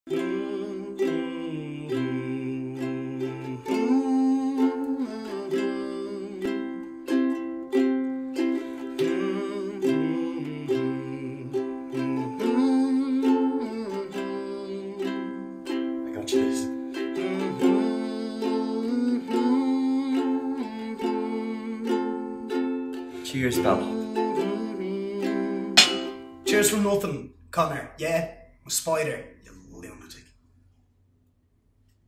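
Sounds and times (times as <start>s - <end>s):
plucked-string tune: 0.1s - 26.8s.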